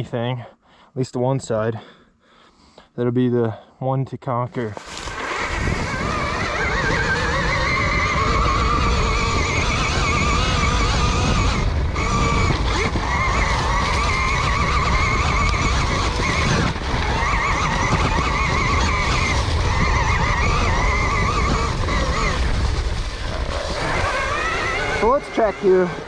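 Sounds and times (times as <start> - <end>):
electric dirt bike motor whining: 4.8 - 26.0.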